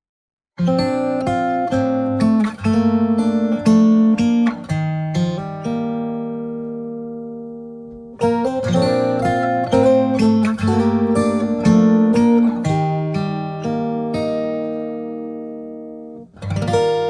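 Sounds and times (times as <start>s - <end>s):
acoustic guitar plucking: 0.6s - 17.0s.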